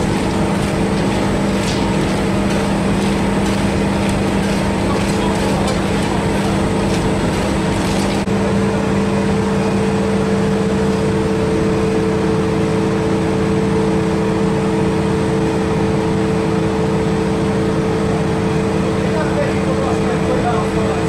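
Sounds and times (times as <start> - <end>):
industrial machinery humming: 0.0 - 21.0.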